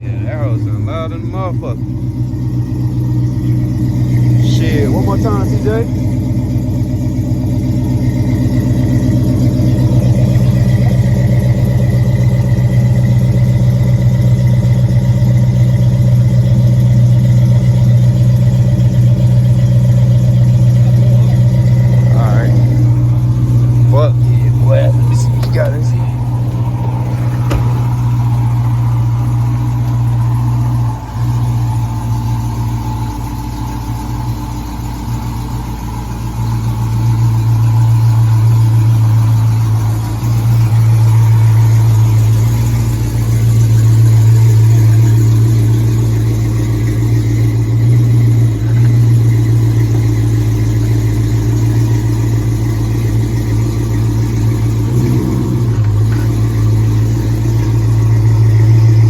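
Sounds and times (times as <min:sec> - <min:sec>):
car engine deep rumble: 0:00.0 - 0:59.0.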